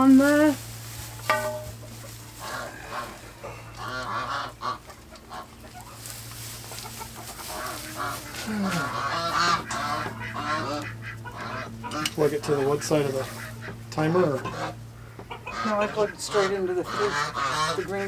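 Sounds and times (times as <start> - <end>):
poultry calling: 0.0 - 18.0
steady low hum: 0.0 - 18.0.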